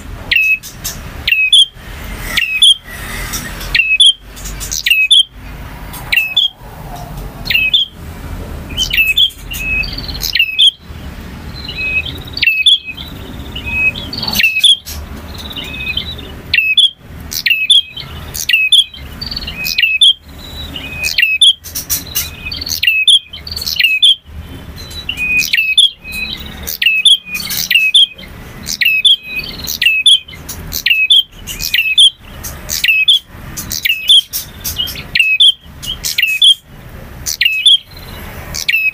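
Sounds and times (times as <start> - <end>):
bird singing sharp chirps: 0.2 - 8.0, 8.7 - 36.7, 37.3 - 38.9.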